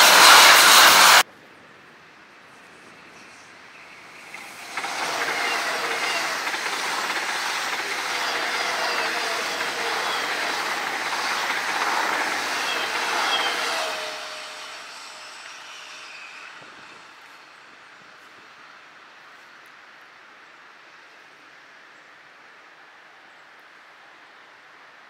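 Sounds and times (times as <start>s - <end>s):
train passing at speed: 0.0s - 1.3s, 2.2s - 21.7s.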